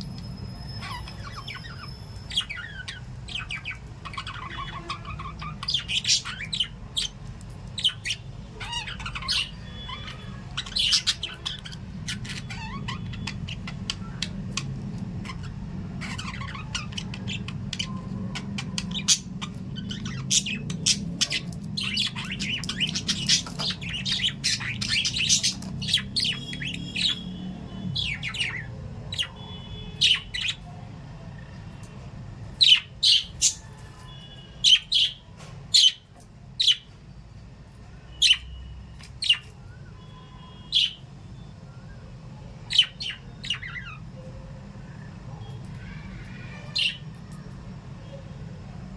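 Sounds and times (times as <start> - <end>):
parrots chirping and squawking: 0.0 - 41.0, 42.6 - 48.8.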